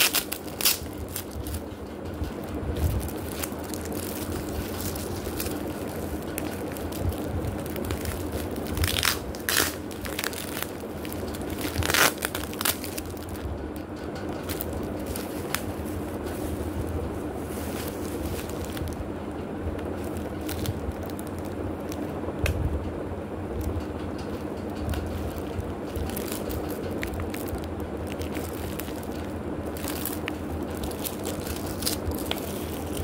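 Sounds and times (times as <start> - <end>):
plastic packaging crinkling: 0.0 - 13.6, 14.2 - 22.2, 23.6 - 33.0.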